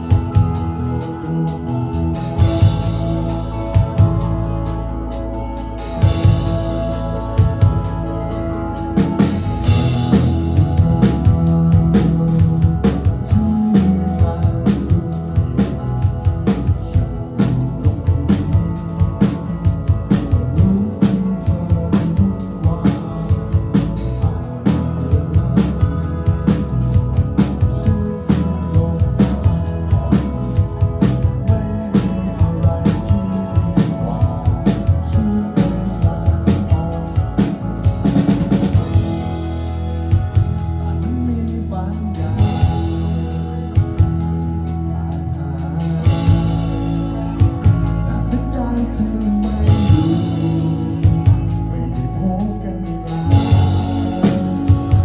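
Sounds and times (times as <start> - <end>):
drum kit beat: 0.0 - 55.0
electric bass: 0.0 - 55.0
electric guitars: 0.0 - 55.0.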